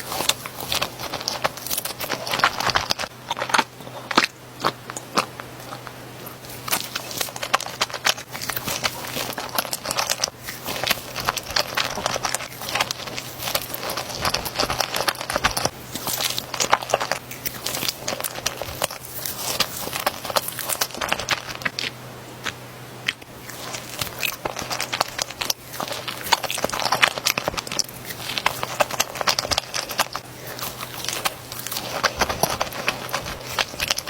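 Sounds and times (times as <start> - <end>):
biting and chewing crisp food: 0.0 - 34.0.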